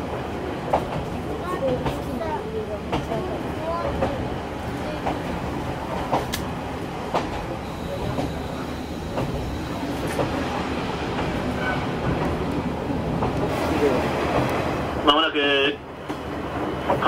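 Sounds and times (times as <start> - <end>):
railcar engine and wheels rumbling: 0.0 - 17.0
rail-joint clicks: 0.7 - 2.2, 2.9 - 3.2, 3.8 - 14.8, 16.0 - 17.0.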